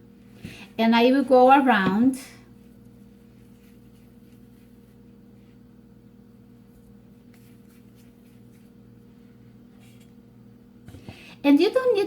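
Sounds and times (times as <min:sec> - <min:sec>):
hands shaping dough: 0:00.0 - 0:10.2
steady low hum: 0:00.0 - 0:12.0.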